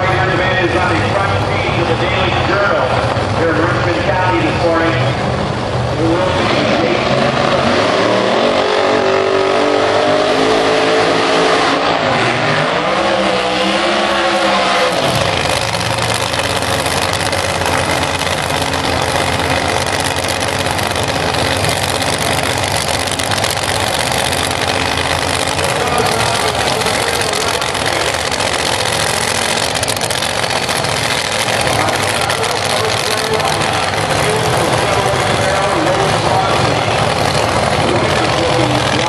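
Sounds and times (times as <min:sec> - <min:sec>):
drag-racing engine roaring: 0:00.0 - 0:39.0.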